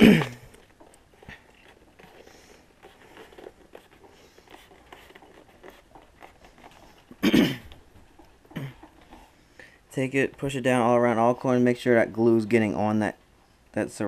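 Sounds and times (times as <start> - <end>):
hands rustling and crunching rubber: 0.0 - 11.3.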